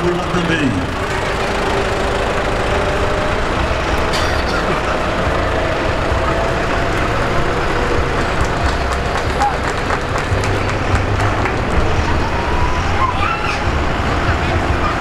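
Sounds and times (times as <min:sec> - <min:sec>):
diesel tractor engine running: 0:00.0 - 0:15.0.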